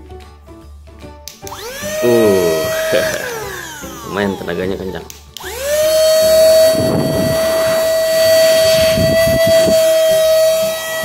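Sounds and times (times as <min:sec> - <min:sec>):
handheld vacuum motor whine: 0:01.5 - 0:11.0.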